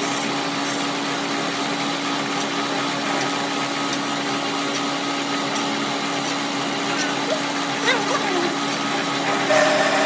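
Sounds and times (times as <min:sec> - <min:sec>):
workshop machine humming: 0:00.0 - 0:10.0.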